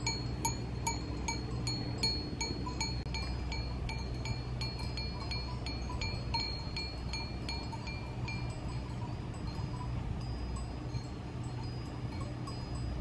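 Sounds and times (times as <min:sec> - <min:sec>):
cowbells clanking: 0:00.0 - 0:13.0
low steady rumble: 0:00.0 - 0:13.0.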